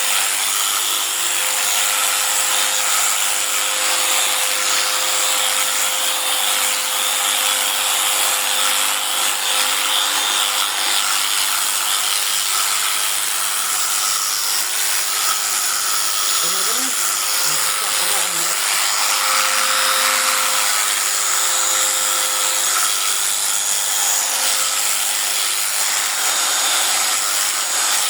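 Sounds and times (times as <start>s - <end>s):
small motor whirring: 0.0s - 28.0s.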